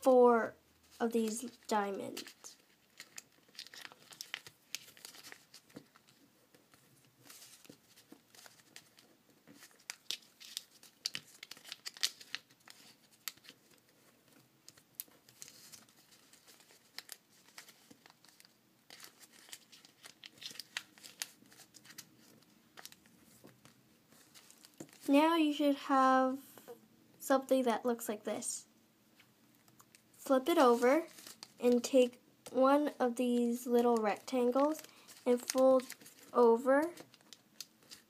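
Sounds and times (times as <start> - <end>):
paper crinkling and crackling: 0.8 - 25.2, 29.2 - 32.6, 33.4 - 38.0.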